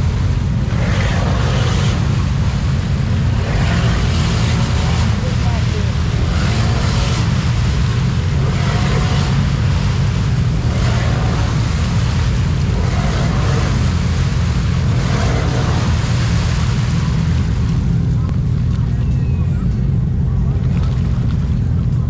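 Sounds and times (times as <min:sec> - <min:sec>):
engine droning and revving: 0:00.0 - 0:22.0
tires throwing mud and water: 0:00.0 - 0:22.0.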